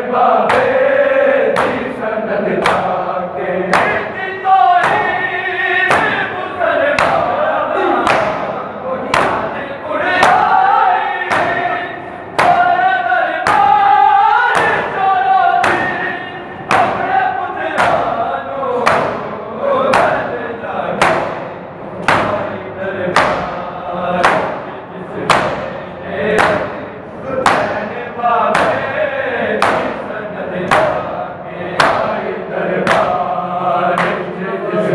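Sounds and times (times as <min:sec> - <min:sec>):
men chanting a lament in chorus: 0:00.0 - 0:34.9
men slapping chests in unison: 0:00.4 - 0:29.0, 0:29.6 - 0:34.4.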